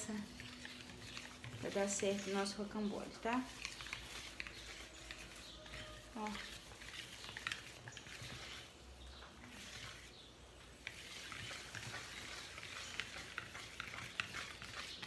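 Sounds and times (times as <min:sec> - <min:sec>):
whisk clicking against bowl: 0:00.0 - 0:08.7, 0:10.8 - 0:15.0
whisk swishing batter: 0:00.0 - 0:15.0.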